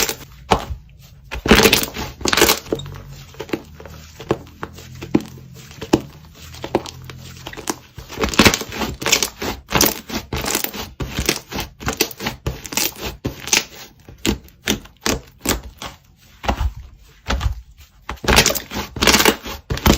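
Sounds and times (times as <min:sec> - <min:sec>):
slime being squished: 0:00.0 - 0:19.9.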